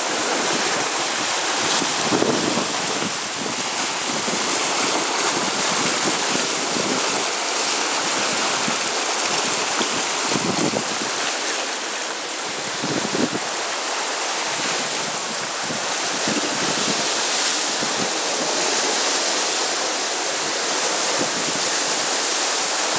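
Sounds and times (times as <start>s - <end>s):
wind buffeting microphone: 0.0s - 22.2s
water hissing along hulls: 0.0s - 22.9s.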